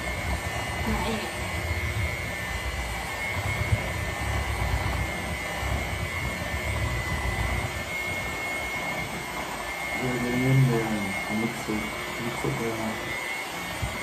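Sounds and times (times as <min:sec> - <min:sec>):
electric hand mixer beating batter: 0:00.0 - 0:14.0.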